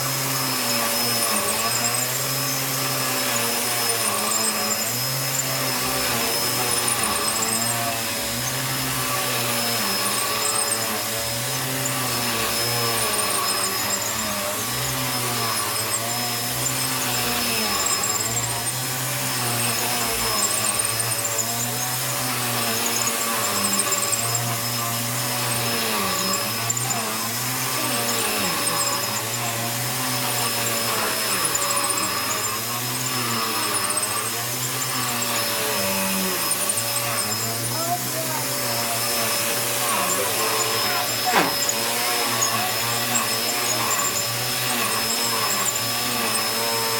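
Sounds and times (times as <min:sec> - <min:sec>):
vacuum cleaner motor whining: 0:00.0 - 0:46.9.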